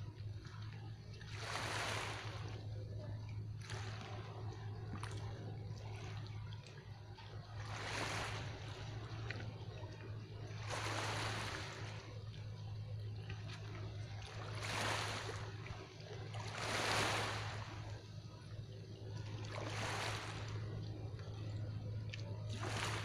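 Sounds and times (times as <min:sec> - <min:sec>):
small waves washing in: 0:00.0 - 0:23.0
steady low hum: 0:00.0 - 0:23.0.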